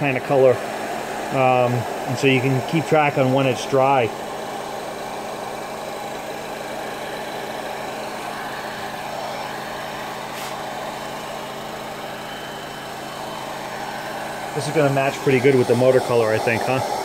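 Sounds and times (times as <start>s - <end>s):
hot air gun blowing: 0.0s - 17.0s.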